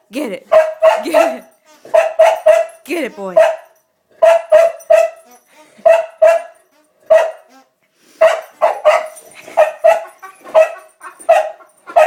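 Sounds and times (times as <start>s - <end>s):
dog barking: 0.5s - 7.5s, 8.2s - 12.0s.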